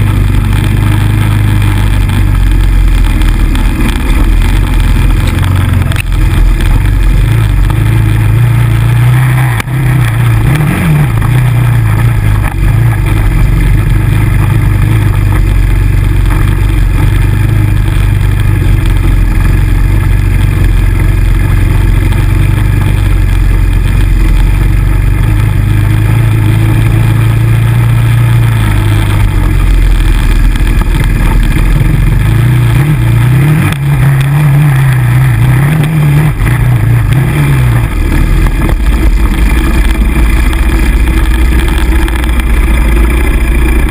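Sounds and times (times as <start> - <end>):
atv engine running hard: 0.0 - 43.9
steady rushing noise: 0.0 - 43.9.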